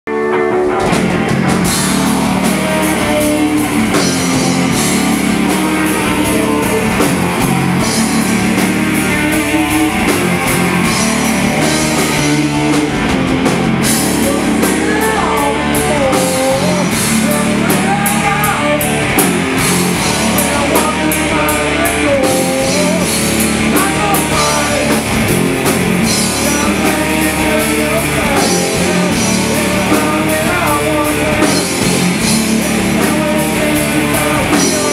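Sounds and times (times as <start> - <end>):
distorted electric guitars: 0.1 - 34.9
drum kit with crashing cymbals: 0.8 - 34.9.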